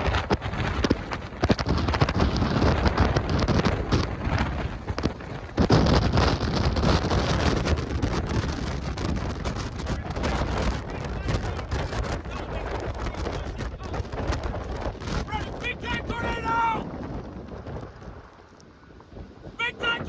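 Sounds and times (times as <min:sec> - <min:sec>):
rain: 0:00.0 - 0:15.3, 0:16.7 - 0:19.7
wind gusting against microphone: 0:00.0 - 0:20.0.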